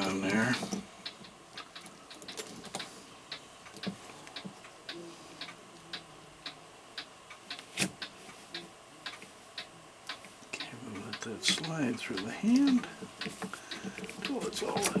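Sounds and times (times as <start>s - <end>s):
mechanical clock ticking: 0.0s - 15.0s.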